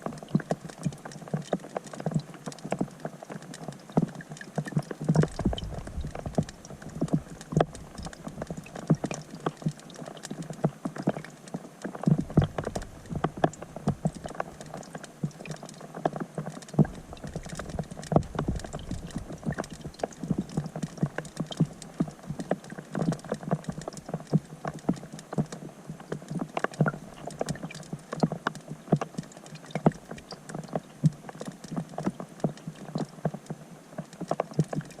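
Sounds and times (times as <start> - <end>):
faint steady hiss: 0.0 - 35.0
rain drops on water underwater: 0.0 - 35.0.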